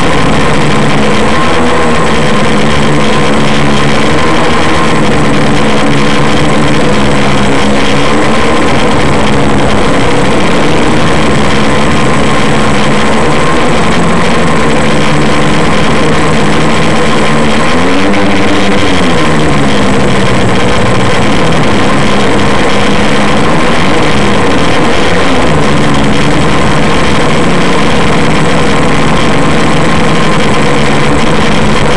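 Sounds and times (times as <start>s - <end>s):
drone motors and propellers: 0.0s - 31.9s
rushing noise: 0.0s - 31.9s.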